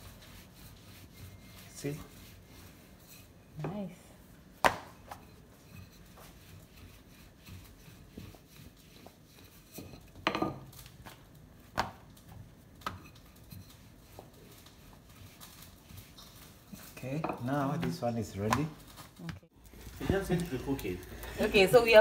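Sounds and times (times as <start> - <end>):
rolling pin rubbing dough: 0.0 - 3.9, 4.6 - 19.2.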